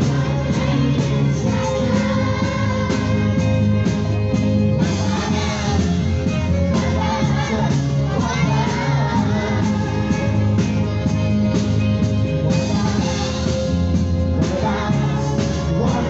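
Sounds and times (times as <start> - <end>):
live band playing pop song: 0.0 - 16.0
voices singing along: 0.0 - 16.0.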